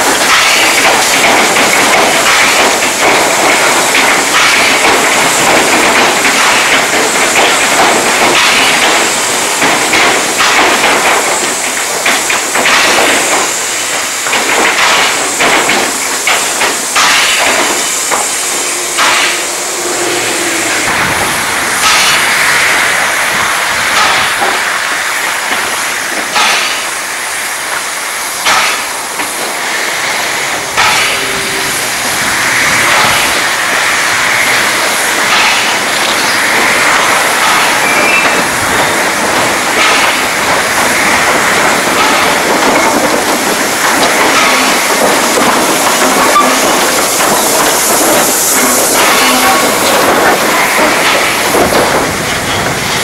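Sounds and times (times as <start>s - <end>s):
steam locomotives hissing: 0.0s - 53.0s.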